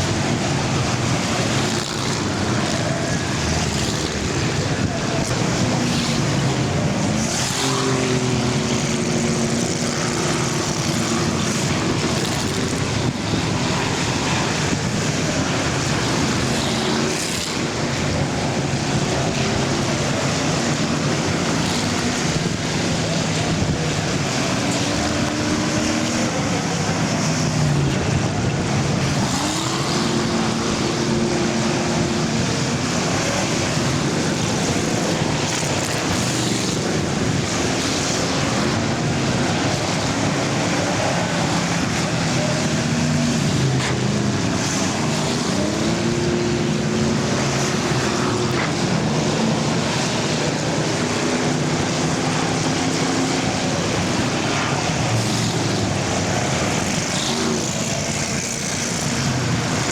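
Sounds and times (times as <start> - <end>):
race car engines passing: 0.0 - 59.9
rush of engine and tyre noise: 0.0 - 59.9.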